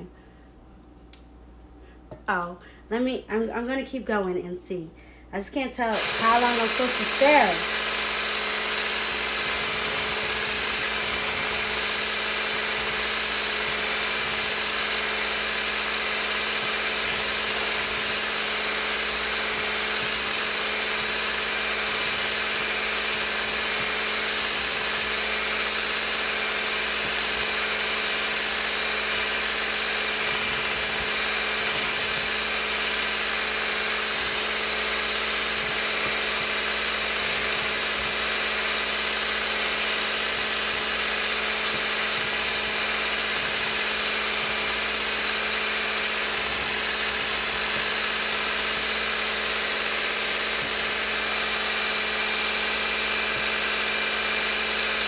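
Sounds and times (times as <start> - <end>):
immersion blender whirring: 5.8 - 55.0.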